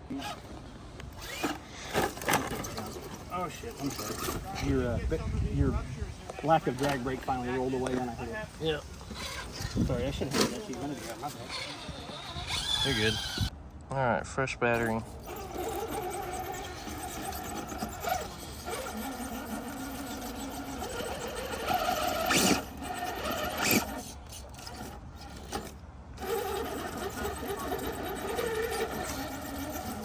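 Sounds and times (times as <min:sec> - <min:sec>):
electric motor whining: 0:00.0 - 0:13.5, 0:14.8 - 0:30.0.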